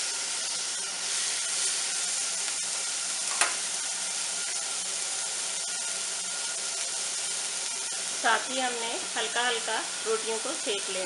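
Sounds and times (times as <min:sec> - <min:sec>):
chicken sizzling on a grill pan: 0:00.0 - 0:11.0.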